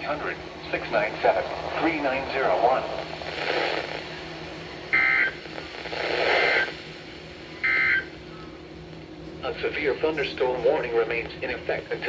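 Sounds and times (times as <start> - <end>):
radio hiss: 0.0 - 8.7, 9.4 - 12.0.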